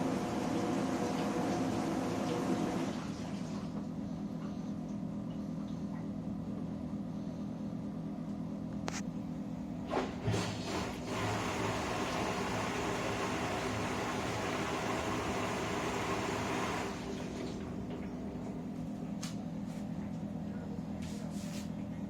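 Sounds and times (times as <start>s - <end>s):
dishwasher running: 0.0s - 6.9s, 9.2s - 22.0s.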